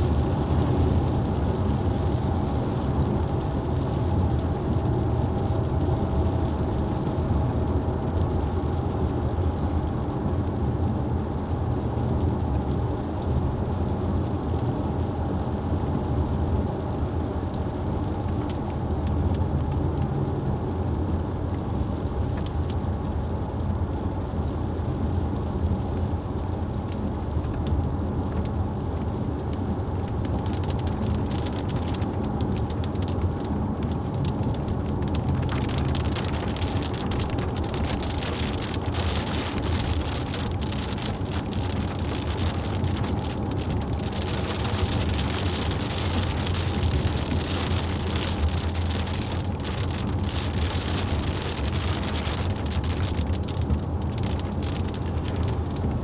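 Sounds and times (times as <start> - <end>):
vehicle road and engine rumble: 0.0 - 56.0.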